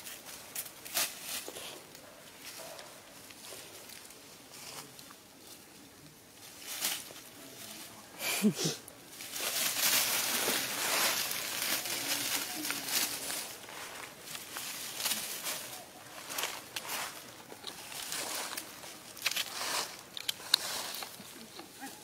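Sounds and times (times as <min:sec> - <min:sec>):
dry leaves rustling and crackling: 0:00.0 - 0:22.0.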